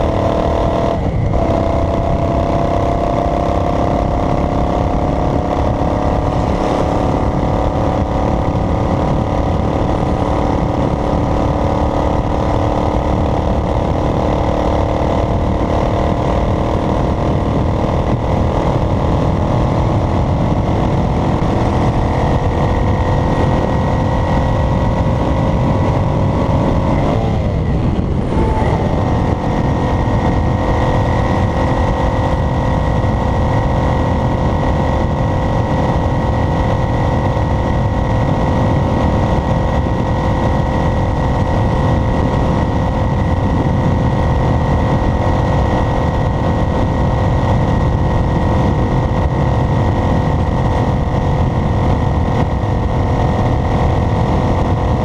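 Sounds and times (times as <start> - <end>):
road rumble: 0.0 - 55.0
vehicle engine running: 0.0 - 55.0.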